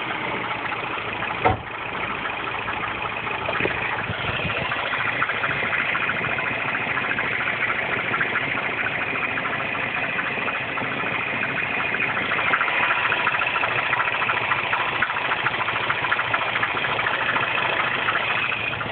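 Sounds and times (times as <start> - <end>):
car engine idling: 0.0 - 18.9
fast ticking rattle: 0.0 - 18.9.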